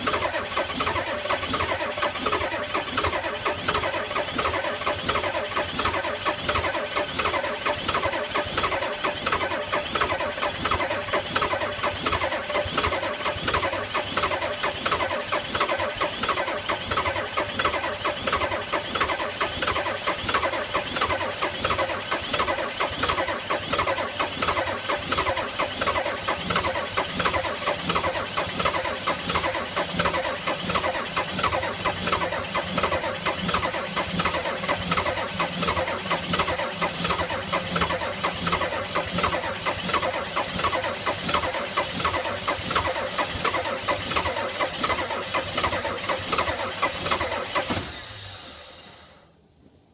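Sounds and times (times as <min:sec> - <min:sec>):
diesel engine cranking: 0:00.0 - 0:49.2.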